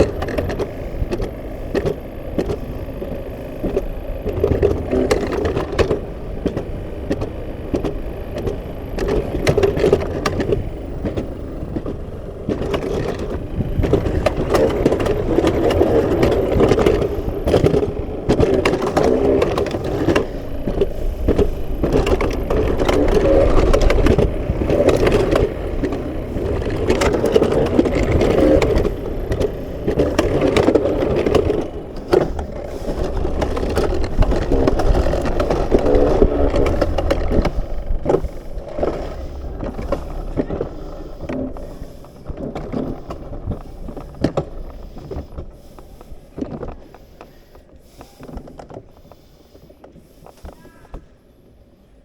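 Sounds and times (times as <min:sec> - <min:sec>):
coaster sled rolling on a rail: 0:00.0 - 0:52.0.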